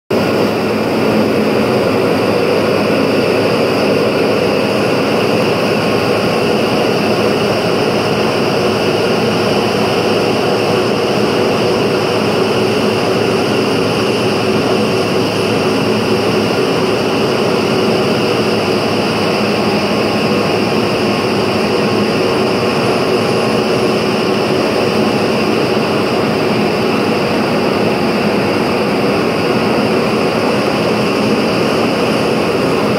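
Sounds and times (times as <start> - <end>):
machinery humming and whirring: 0.1 - 32.9.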